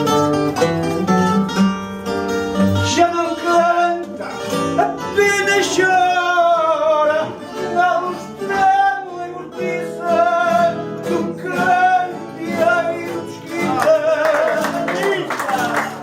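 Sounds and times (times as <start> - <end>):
plucked guitars: 0.0 - 16.0
man singing with vibrato: 2.7 - 16.0.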